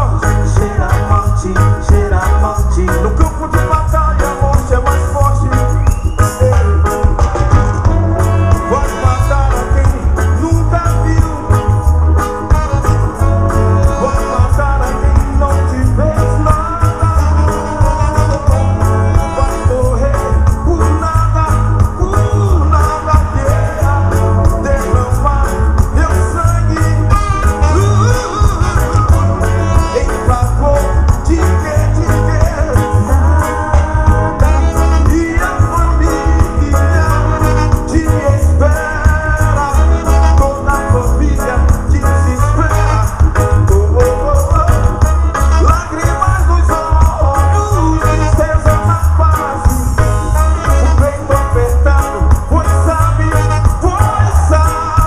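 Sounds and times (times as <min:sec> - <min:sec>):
heavy pulsing bass: 0:00.0 - 0:55.0
man singing: 0:00.0 - 0:55.0
reggae band playing: 0:00.0 - 0:55.0.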